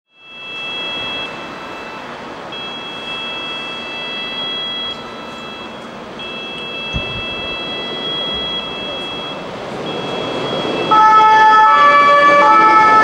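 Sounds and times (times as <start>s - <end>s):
city traffic noise: 0.1s - 13.0s
two-tone sirens: 0.1s - 13.0s.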